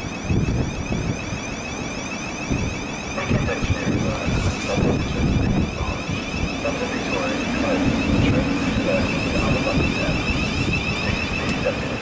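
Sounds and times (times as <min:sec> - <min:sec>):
electric traction whine: 0:00.0 - 0:12.0
train wheels rumbling on rail: 0:00.0 - 0:12.0.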